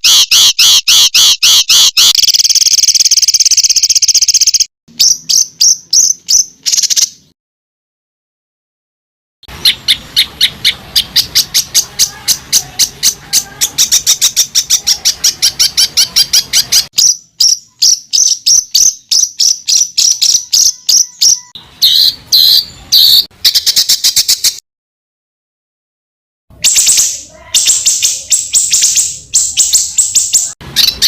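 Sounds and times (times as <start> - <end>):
songbird rapid repeated notes: 0.0 - 7.3, 9.5 - 24.6, 26.6 - 31.0.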